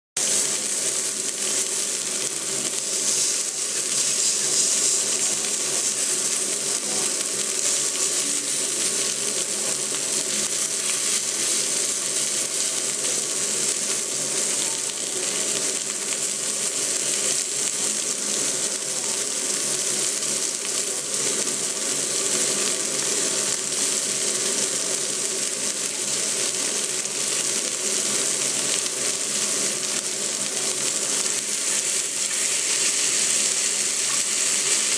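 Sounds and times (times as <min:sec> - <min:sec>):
meat sizzling on a griddle: 0:00.2 - 0:34.9.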